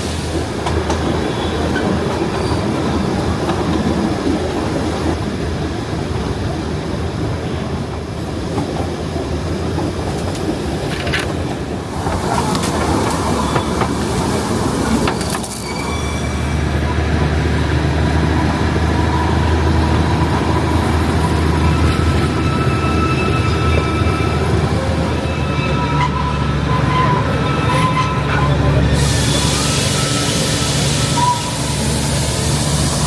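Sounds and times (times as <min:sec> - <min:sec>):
train rail noise: 0:00.0 - 0:33.0.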